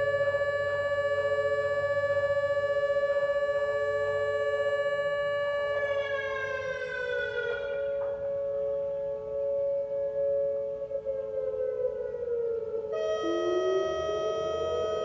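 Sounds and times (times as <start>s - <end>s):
background siren tone: 0.0s - 15.0s
electronic siren low tone: 0.0s - 15.0s.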